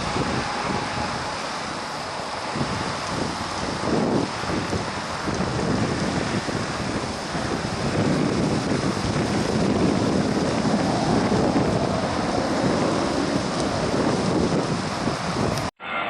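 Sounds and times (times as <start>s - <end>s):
wind on microphone: 0.0s - 15.8s
jet engines rushing: 0.0s - 16.0s.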